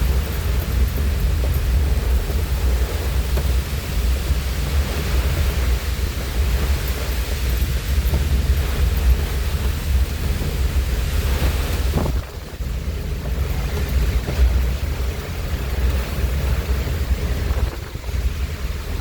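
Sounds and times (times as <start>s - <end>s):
heavy rain: 0.0s - 19.0s
strong wind gusts: 0.0s - 19.0s.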